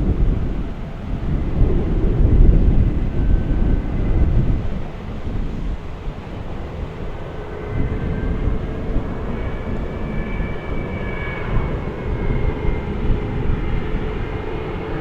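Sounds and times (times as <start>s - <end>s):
faint engine whine: 0.0s - 15.0s
jet engines rumbling overhead: 0.0s - 15.0s
wind gusting on microphone: 0.0s - 15.0s.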